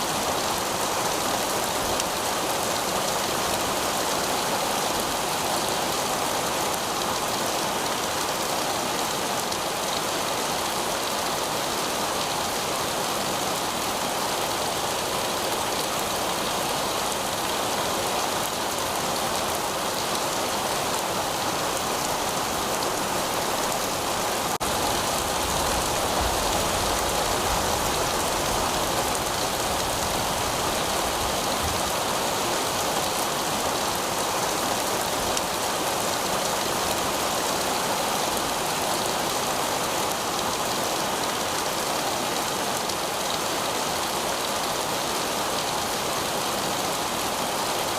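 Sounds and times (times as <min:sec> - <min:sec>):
heavy rain on pavement: 0:00.0 - 0:47.9.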